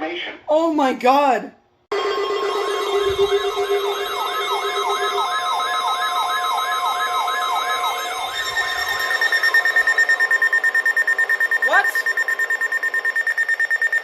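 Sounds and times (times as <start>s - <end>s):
high pulsing alarm tone: 1.9s - 14.0s
steady alarm tone: 1.9s - 14.0s
siren-like falling whoop: 2.0s - 14.0s.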